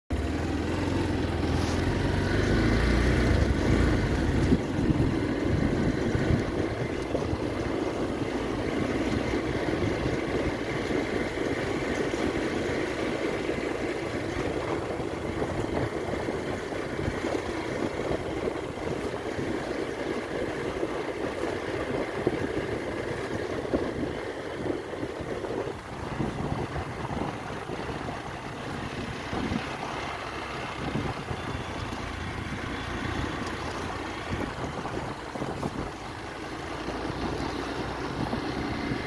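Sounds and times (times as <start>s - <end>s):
motorcycle engine running: 0.1s - 39.0s
tyres on gravel road: 0.1s - 39.0s.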